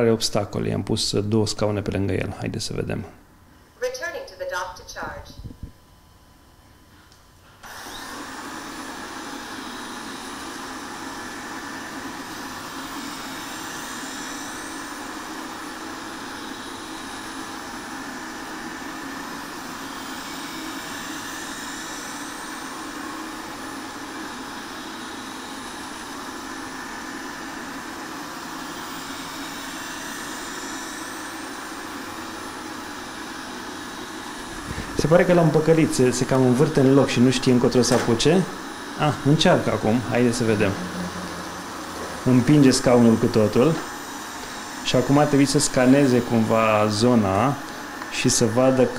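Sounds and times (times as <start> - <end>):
robot vacuum motor running: 7.6 - 48.9.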